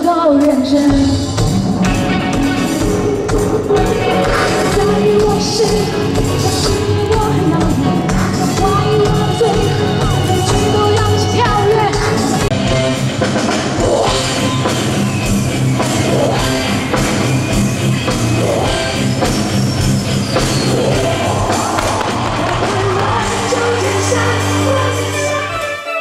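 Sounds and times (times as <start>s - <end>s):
rock song with singing: 0.0s - 26.0s.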